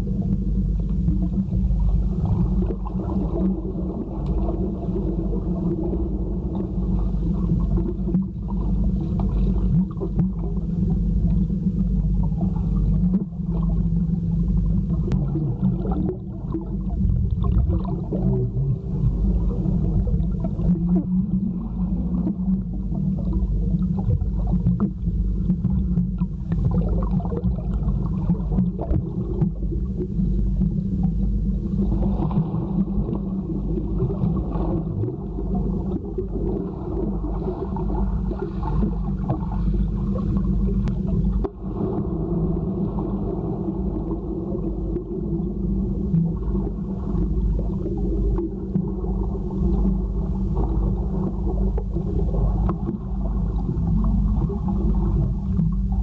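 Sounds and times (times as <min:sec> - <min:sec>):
muffled underwater rumble and gurgling: 0:00.0 - 0:56.0.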